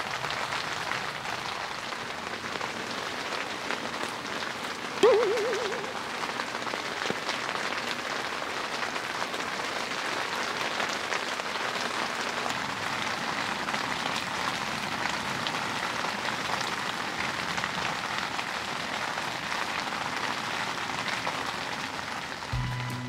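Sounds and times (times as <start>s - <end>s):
rain on a tent: 0.0s - 23.0s.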